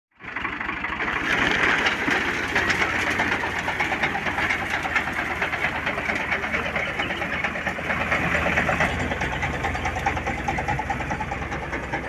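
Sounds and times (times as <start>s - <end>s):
tractor diesel engine running: 0.1s - 12.0s.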